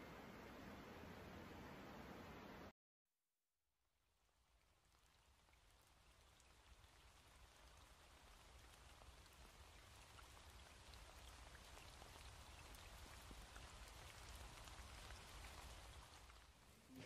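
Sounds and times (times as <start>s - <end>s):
faint rain falling: 0.0s - 2.7s, 4.1s - 17.0s.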